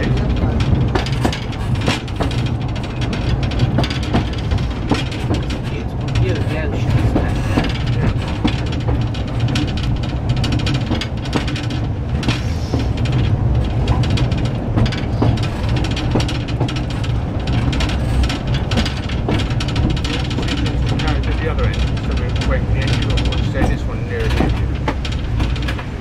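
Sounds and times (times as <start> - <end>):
carriage clicking and rattling on track: 0.0 - 26.0
train rumbling: 0.0 - 26.0.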